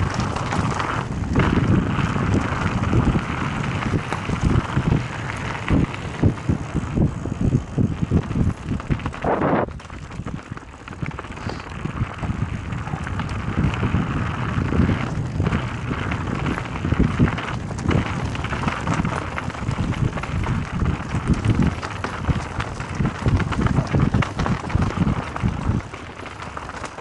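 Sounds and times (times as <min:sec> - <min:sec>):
bike rattling over bumps: 0:00.0 - 0:27.0
wind buffeting microphone: 0:00.0 - 0:27.0.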